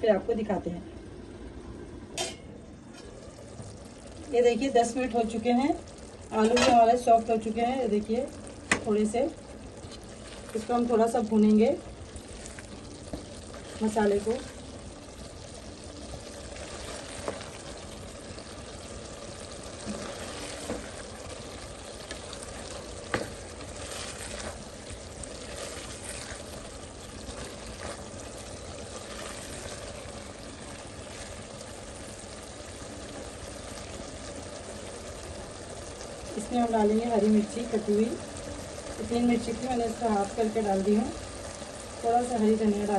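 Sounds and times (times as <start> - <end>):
food sizzling in a pan: 1.2 - 42.9.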